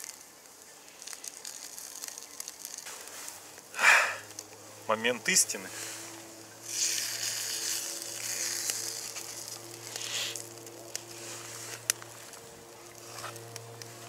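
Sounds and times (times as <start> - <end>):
sandwich sizzling in frying pan: 0.0 - 14.0.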